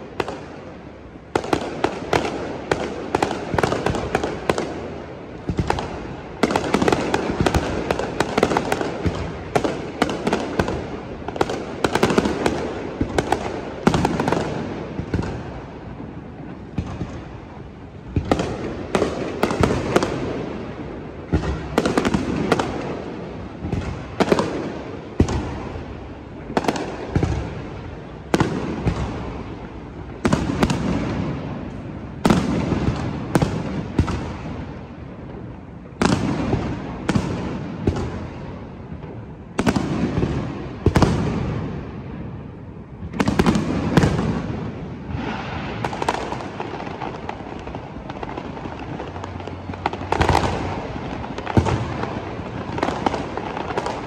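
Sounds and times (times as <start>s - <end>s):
fireworks crackle and rumble: 0.0s - 54.0s.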